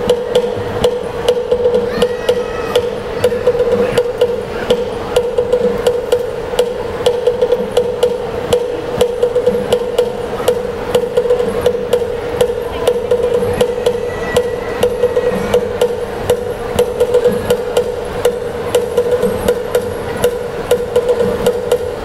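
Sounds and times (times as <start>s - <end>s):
beaten ringing tone: 0.0s - 22.0s
sharp clicking strikes: 0.0s - 22.0s.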